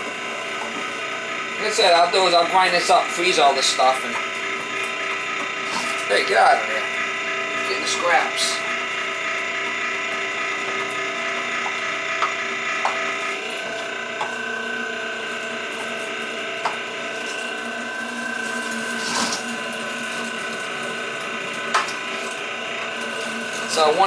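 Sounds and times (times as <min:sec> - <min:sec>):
electric meat grinder running: 0:00.0 - 0:24.0.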